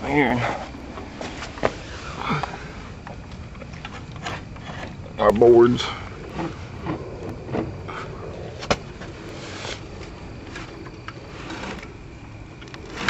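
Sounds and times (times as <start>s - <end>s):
faint shuffling and rustling: 0.0s - 13.0s.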